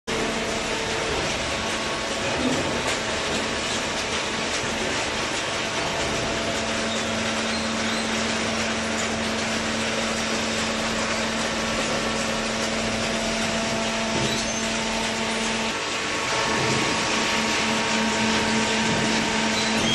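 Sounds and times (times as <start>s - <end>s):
baler machinery running: 0.1s - 19.9s.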